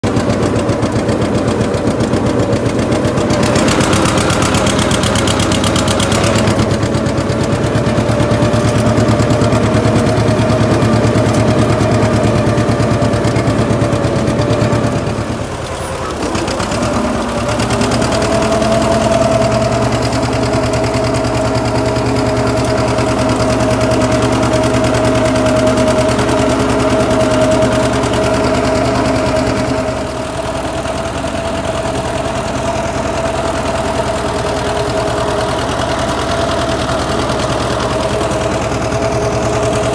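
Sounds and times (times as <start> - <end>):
tractor engine popping exhaust: 0.0 - 39.9.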